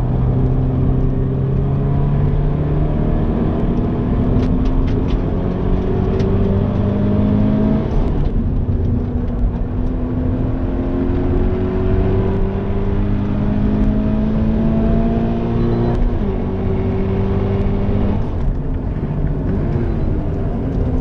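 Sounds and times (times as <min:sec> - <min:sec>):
car engine revving: 0:00.0 - 0:21.0
tyre and road noise: 0:00.0 - 0:21.0.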